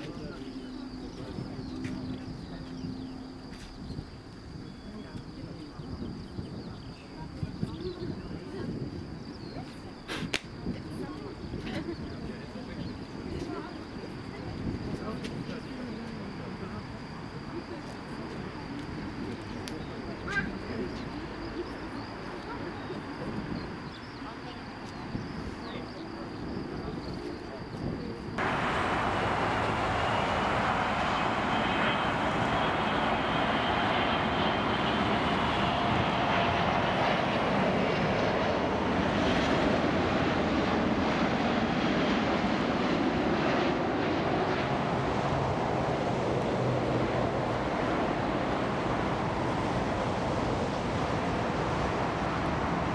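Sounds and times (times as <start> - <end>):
distant jet engines rumbling: 0.0 - 52.9.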